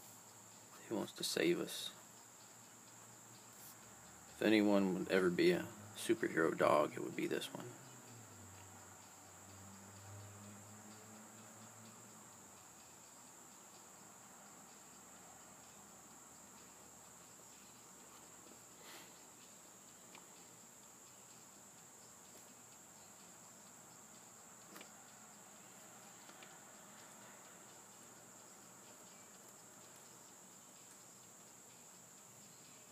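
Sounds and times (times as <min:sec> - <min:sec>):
faint ticks: 0:00.0 - 0:32.9.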